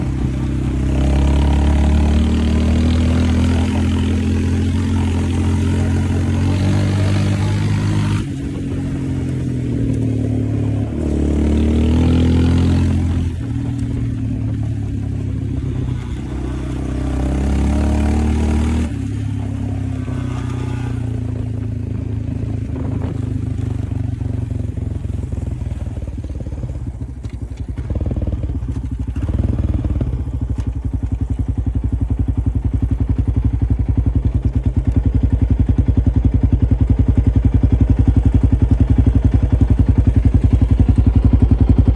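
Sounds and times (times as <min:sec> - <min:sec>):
atv engine revving and idling: 0:00.0 - 0:41.9.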